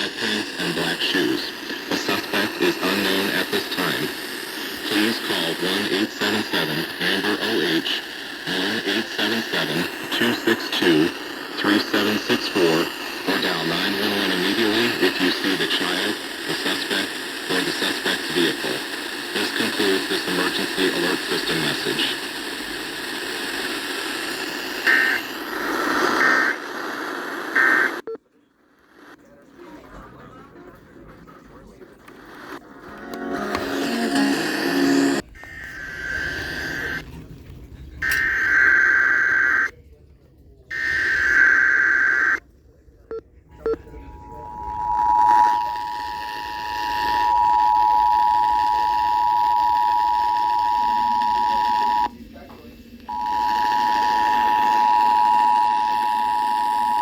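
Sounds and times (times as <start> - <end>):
faint radio hiss: 0.0 - 40.1, 40.7 - 57.0.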